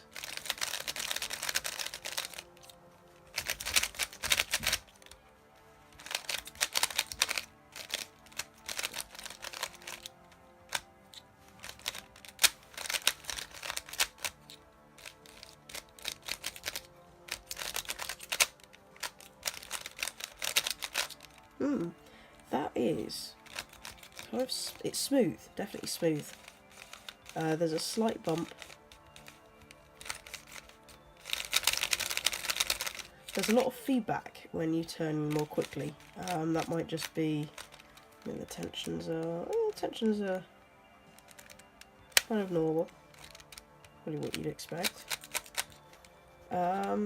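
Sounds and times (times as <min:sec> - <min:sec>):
puzzle cube plastic clicking: 0:00.0 - 0:05.2, 0:05.9 - 0:22.5, 0:23.1 - 0:34.0, 0:34.6 - 0:40.4, 0:41.1 - 0:47.0.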